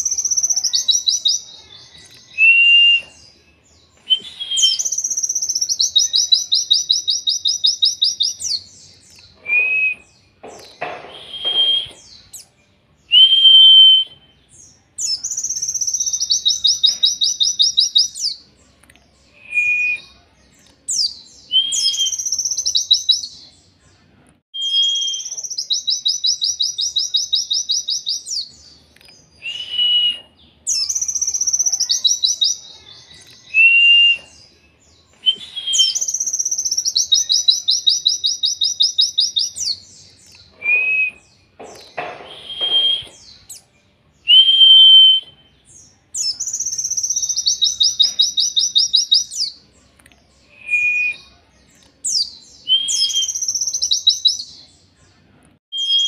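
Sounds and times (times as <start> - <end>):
bird singing whistles and trills: 0.0 - 18.4, 19.3 - 20.2, 20.9 - 23.4, 24.6 - 28.7, 29.3 - 49.6, 50.4 - 51.3, 52.1 - 54.6, 55.7 - 56.0.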